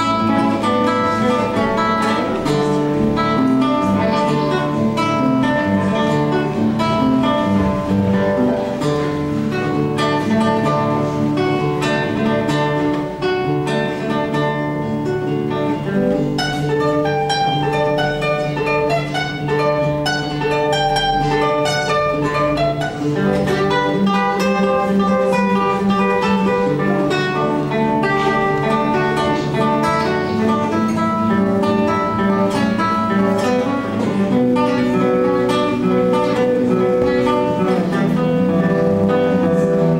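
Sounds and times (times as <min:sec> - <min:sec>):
plucked acoustic guitar music: 0:00.0 - 0:39.9.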